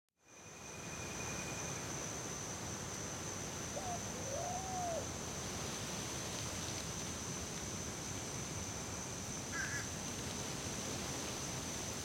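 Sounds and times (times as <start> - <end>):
high-pitched insect trill: 0.2 - 10.2.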